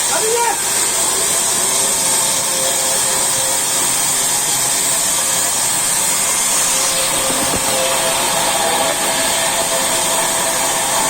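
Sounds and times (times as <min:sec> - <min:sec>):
sawmill saw running: 0:00.0 - 0:11.0.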